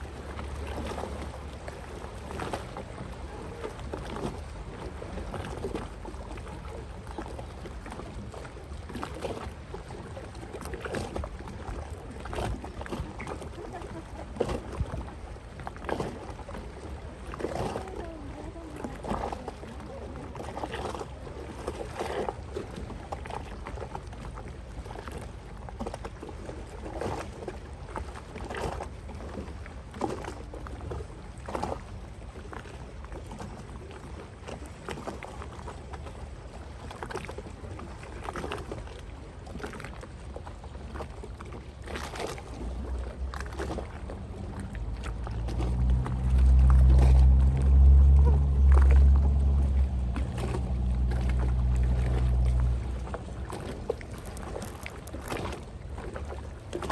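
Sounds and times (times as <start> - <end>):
boat engine droning: 0.0 - 56.9
small waves splashing on shore: 0.0 - 56.9.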